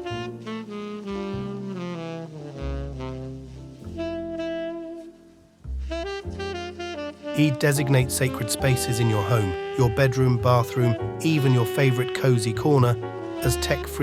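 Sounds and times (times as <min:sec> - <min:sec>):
walking bass line: 0:00.0 - 0:11.2
saxophone jazz music: 0:00.0 - 0:14.0.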